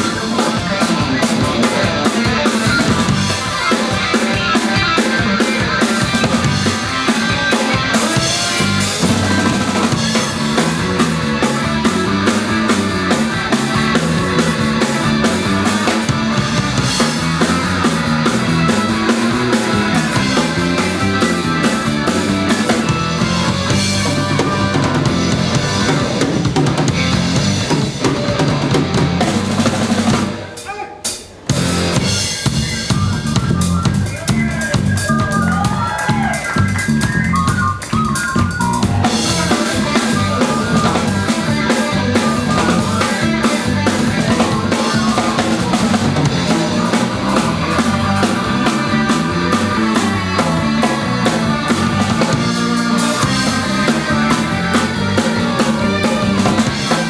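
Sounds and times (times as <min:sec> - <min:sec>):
drum kit: 0:00.0 - 0:57.0
rock band playing: 0:00.0 - 0:57.0.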